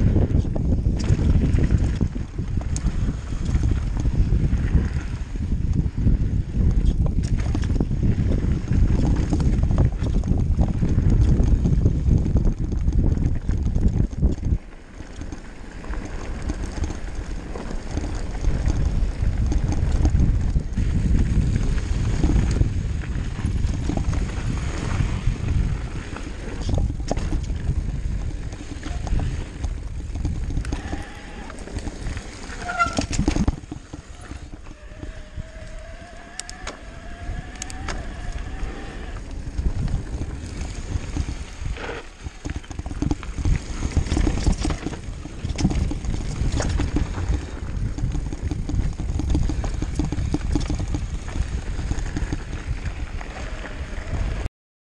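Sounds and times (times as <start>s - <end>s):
bike knocking and rattling: 0.0s - 54.5s
tyres on dirt: 0.0s - 54.5s
wind rumble on microphone: 0.0s - 54.5s.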